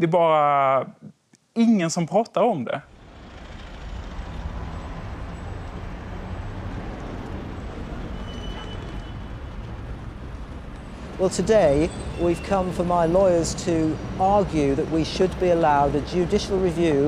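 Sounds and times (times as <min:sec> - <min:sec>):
city traffic rumble: 0:02.9 - 0:17.0.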